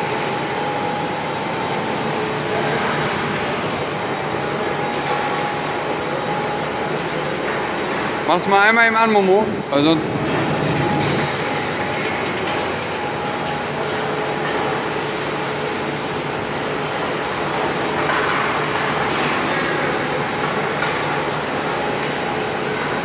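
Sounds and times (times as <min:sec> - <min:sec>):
machinery running: 0:00.0 - 0:23.0.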